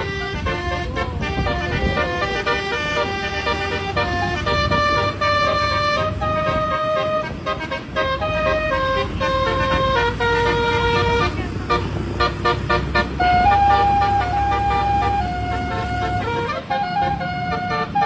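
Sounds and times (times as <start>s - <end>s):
bus horn playing a melody: 0.0s - 18.0s.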